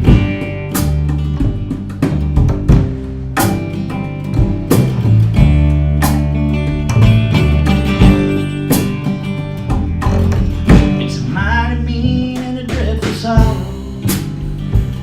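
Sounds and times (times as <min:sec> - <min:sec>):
drum and cymbal hits: 0:00.0 - 0:11.3, 0:12.1 - 0:15.0
bass and drums: 0:00.0 - 0:15.0
strummed acoustic guitar: 0:00.0 - 0:15.0.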